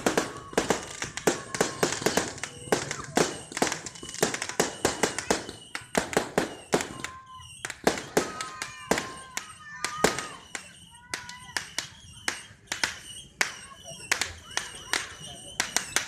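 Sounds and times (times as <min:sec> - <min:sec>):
fireworks and firecrackers banging: 0:00.0 - 0:16.0.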